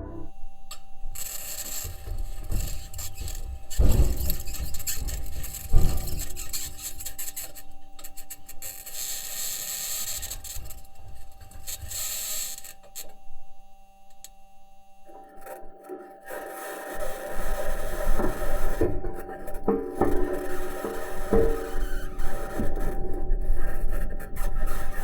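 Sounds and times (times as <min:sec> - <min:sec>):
rover wheels grinding over ground: 0:00.0 - 0:13.2, 0:17.0 - 0:25.0.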